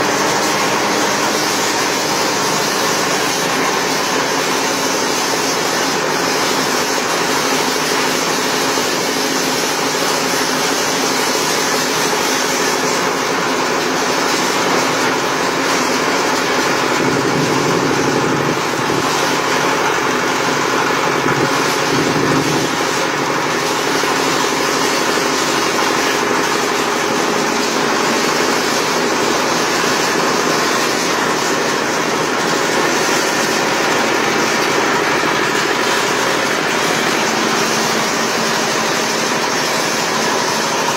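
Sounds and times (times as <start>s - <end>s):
shredder machine running: 0.0s - 40.9s.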